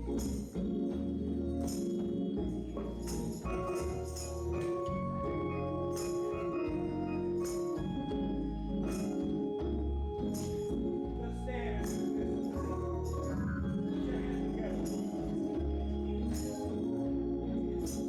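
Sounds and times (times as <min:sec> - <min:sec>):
band playing instrumental: 0:00.0 - 0:15.7
bass notes: 0:00.0 - 0:18.0
keyboard chords: 0:00.0 - 0:18.0.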